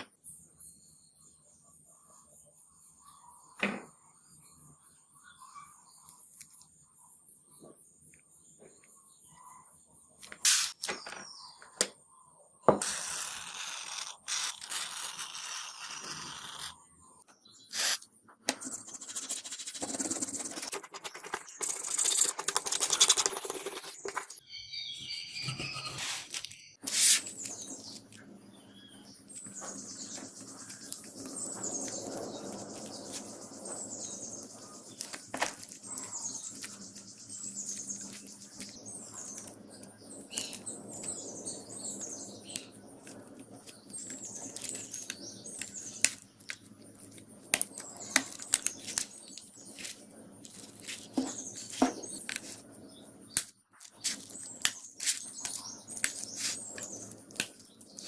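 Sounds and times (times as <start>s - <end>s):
small bird chirping: 0.2s - 58.0s.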